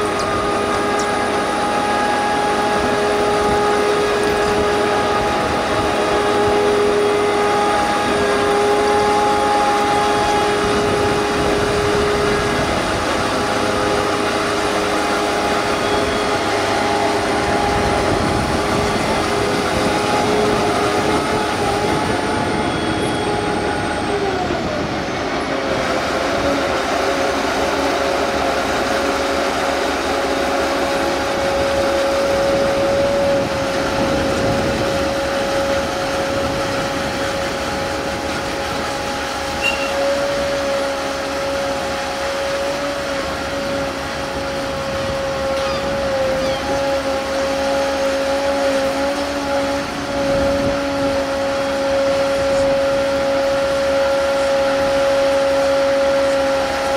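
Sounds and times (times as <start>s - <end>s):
tracked tractor drone with whine: 0.0s - 56.9s.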